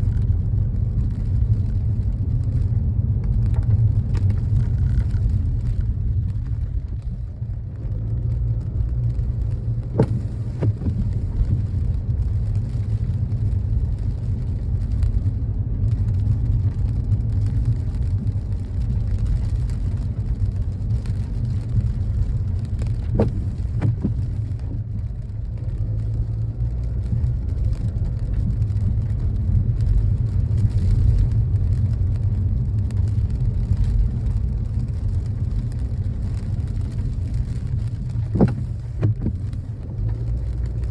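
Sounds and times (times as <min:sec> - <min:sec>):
car driving in rain: 0:00.0 - 0:40.9.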